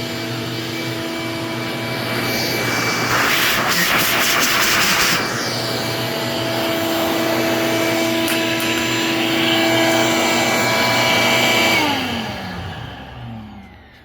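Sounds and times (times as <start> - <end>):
vacuum motor spinning down: 0.0 - 14.0
wet dry vacuum running: 0.0 - 14.0.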